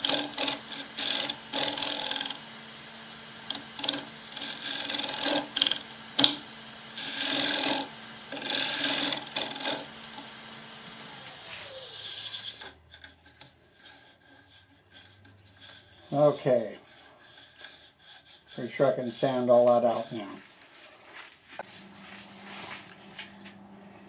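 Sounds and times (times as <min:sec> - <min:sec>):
wood lathe humming: 0:00.0 - 0:20.4, 0:21.6 - 0:24.0
scraper rasping on spinning wood: 0:00.0 - 0:20.8.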